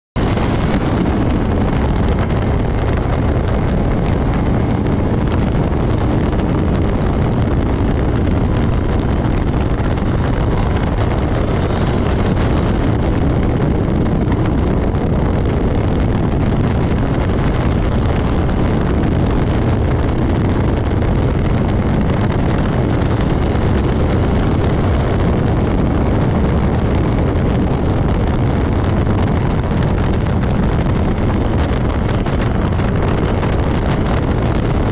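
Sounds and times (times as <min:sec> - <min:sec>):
wind noise on microphone: 0:00.1 - 0:34.9
motorcycle engine cruising: 0:00.2 - 0:34.9.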